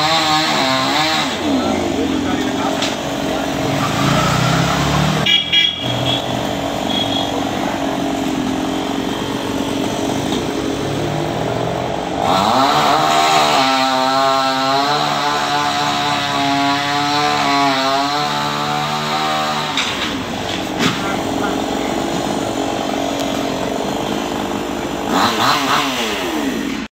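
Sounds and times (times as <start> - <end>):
chainsaw cutting into wood: 0.0 - 5.2, 6.2 - 26.9
chainsaw running: 0.0 - 26.9.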